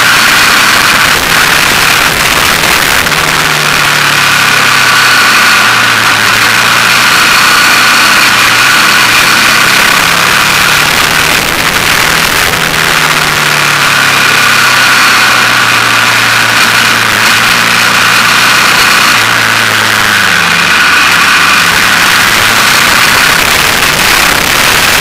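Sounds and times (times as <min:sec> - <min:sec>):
dense rushing noise: 0:00.0 - 0:25.0
motorcycle engine running: 0:00.0 - 0:25.0.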